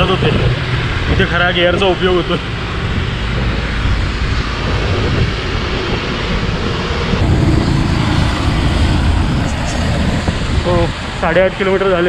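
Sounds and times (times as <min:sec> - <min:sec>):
road traffic noise: 0:00.0 - 0:05.8, 0:07.1 - 0:12.0
wind rumbling on microphone: 0:00.0 - 0:11.8.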